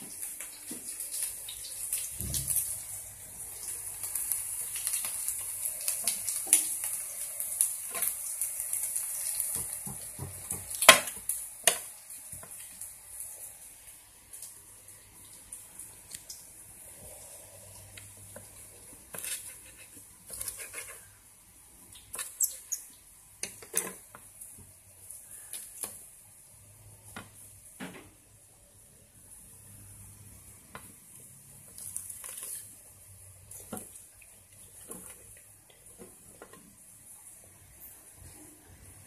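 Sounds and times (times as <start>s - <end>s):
food frying in oil: 0.0s - 39.0s.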